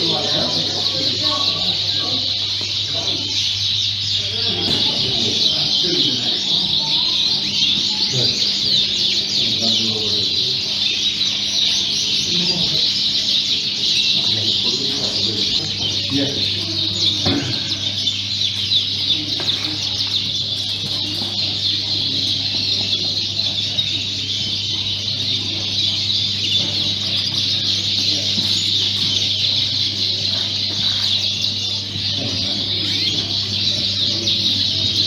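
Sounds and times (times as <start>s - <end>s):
canaries chirping and trilling: 0.0s - 35.0s.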